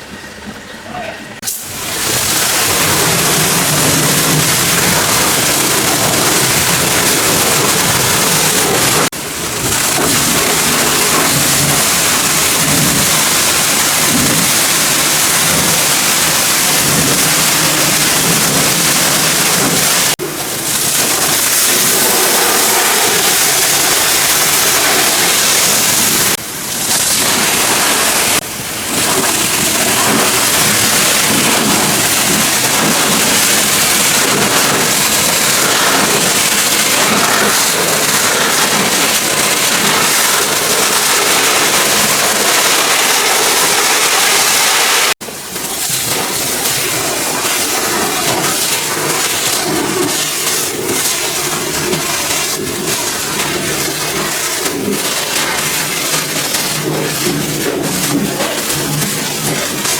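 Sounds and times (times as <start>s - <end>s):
pressure washer water spray: 1.4s - 59.9s.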